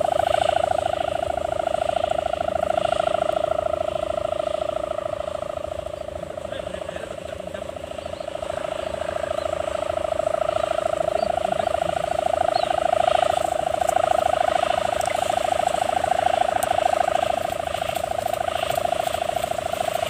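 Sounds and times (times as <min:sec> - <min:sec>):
kite hummer droning in wind: 0:00.0 - 0:20.0.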